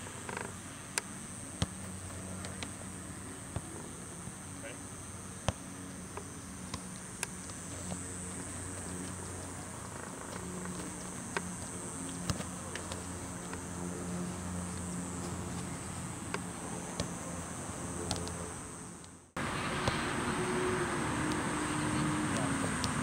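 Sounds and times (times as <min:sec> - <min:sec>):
soccer balls being kicked: 0:01.0 - 0:17.4, 0:18.0 - 0:18.4, 0:19.4 - 0:23.0.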